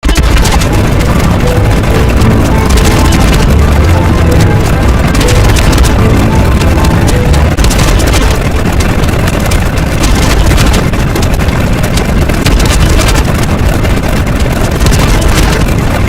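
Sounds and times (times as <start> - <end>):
deep rumble: 0.0 - 16.0
loud rushing noise: 0.4 - 16.0.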